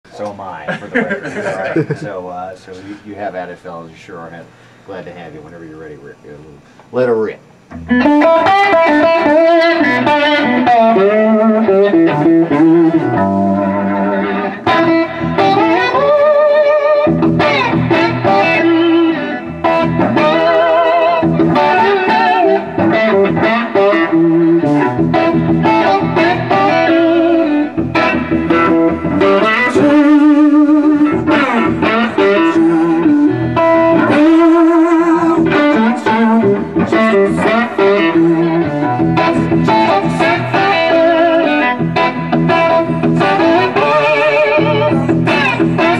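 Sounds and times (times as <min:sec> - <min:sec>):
blues-rock electric guitar solo: 0:07.7 - 0:45.9.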